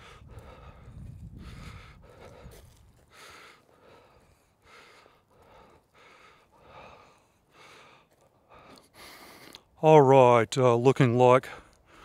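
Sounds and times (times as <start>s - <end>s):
person breathing quickly: 0.0s - 9.8s, 11.5s - 12.0s.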